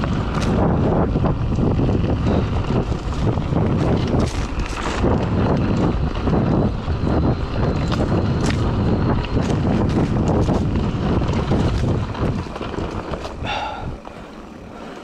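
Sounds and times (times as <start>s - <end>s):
bike rattling over stones: 0.0s - 15.0s
wind buffeting microphone: 0.0s - 15.0s.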